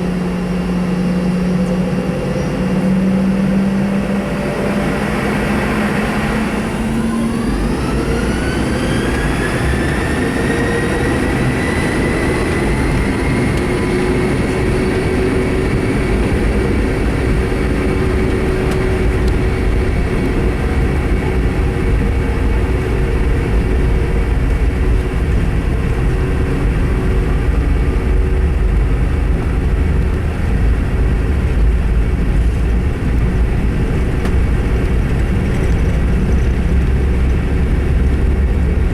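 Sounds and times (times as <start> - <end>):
deep rumble of takeoff roll: 0.0 - 38.9
jet engine whine: 0.0 - 38.9.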